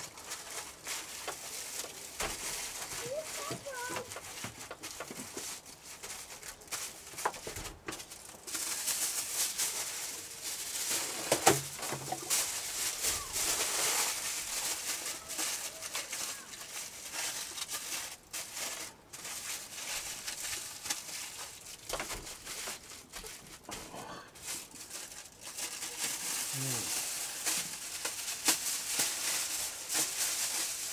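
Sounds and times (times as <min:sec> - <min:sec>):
foil crinkling and rustling: 0:00.0 - 0:30.9.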